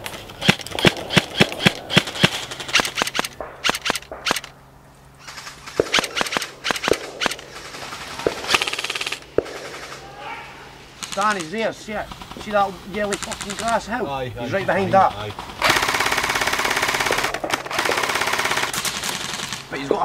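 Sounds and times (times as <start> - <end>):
airsoft guns firing: 0.0 - 4.6, 5.2 - 14.0, 14.7 - 20.0.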